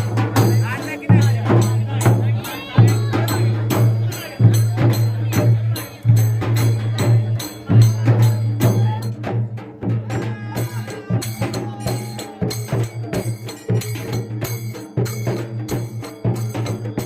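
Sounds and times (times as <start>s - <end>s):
percussion music with jingles: 0.0s - 17.0s.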